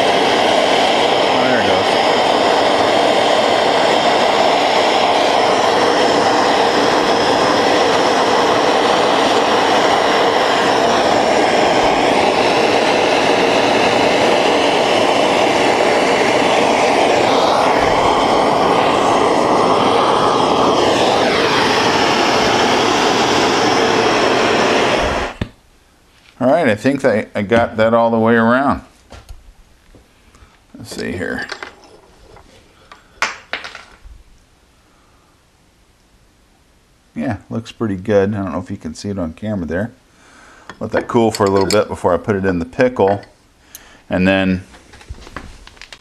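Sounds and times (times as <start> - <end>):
gas torch burning: 0.0 - 25.6, 30.0 - 35.1, 37.2 - 46.0.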